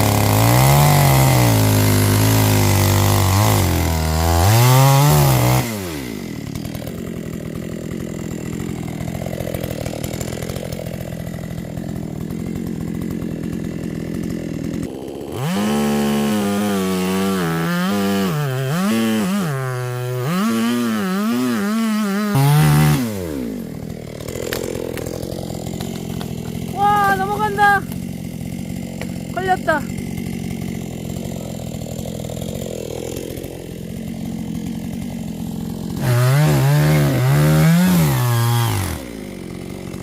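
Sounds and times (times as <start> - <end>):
chainsaw revving and idling: 0.0 - 40.0.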